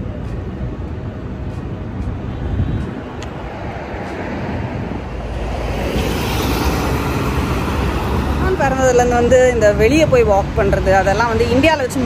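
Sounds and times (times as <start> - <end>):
road traffic: 0.0 - 12.0
wind buffeting microphone: 0.0 - 12.0.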